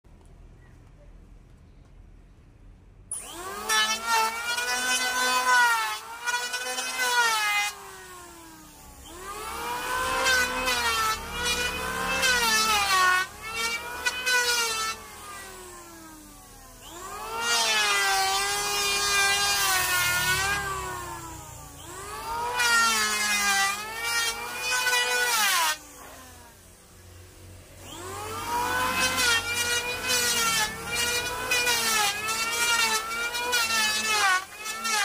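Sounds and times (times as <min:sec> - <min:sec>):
electric planer whining: 0:03.1 - 0:35.0.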